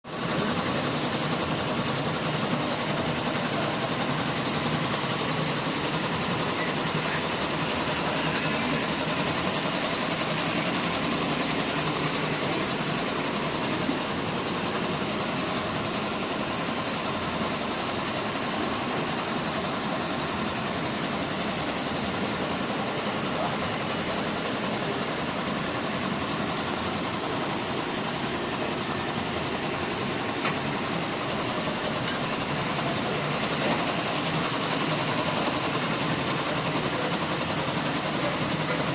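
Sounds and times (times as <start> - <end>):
printing machine whirring: 0.1 - 38.9.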